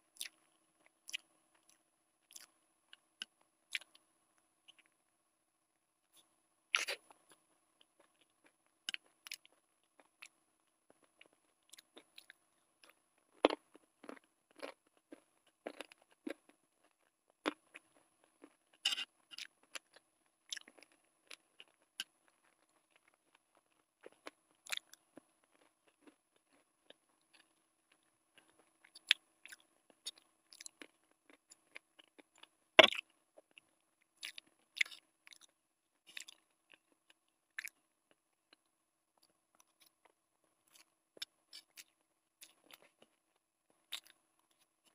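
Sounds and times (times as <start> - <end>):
person chewing: 0.2 - 4.0, 6.2 - 44.9.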